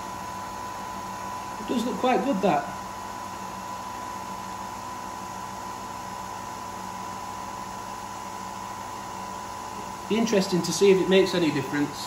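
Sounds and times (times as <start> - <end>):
coffee machine whirring hum: 0.0 - 12.0.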